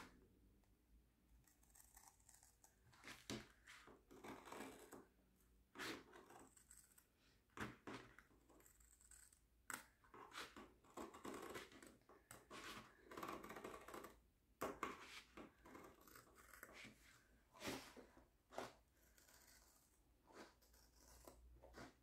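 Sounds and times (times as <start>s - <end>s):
scissors cutting canvas: 1.4s - 5.1s, 5.7s - 22.0s.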